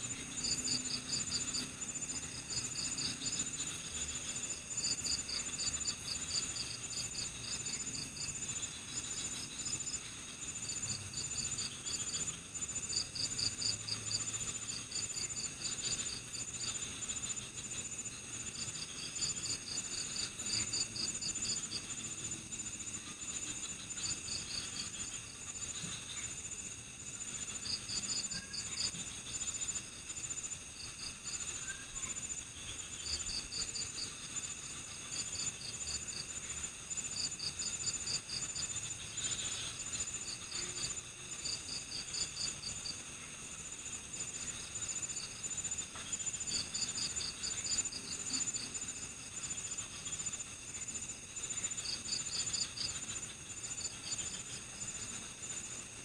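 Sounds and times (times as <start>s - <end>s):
crickets trilling: 0.0s - 56.0s
rapid insect chirps: 0.0s - 56.0s.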